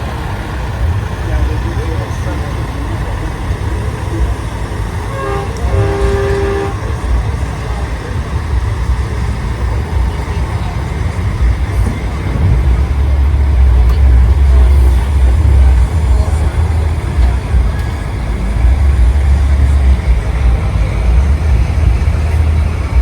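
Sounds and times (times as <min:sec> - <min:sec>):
diesel trucks rumbling past: 0:00.0 - 0:23.0.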